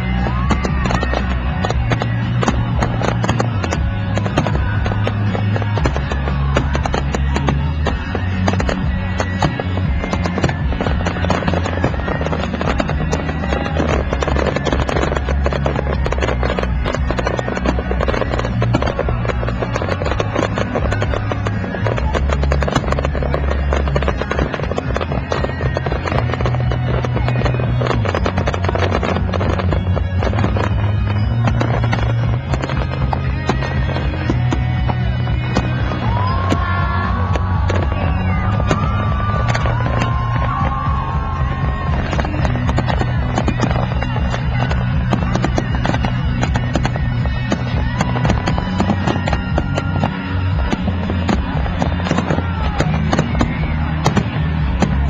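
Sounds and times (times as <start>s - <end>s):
fireworks crackling and banging: 0.0s - 55.0s
loud music with bass notes: 0.0s - 55.0s.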